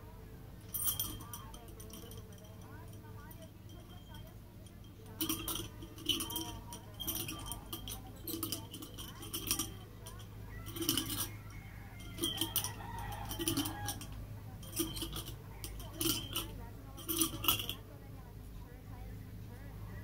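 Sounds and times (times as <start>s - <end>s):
chain links clinking: 0.6s - 17.9s.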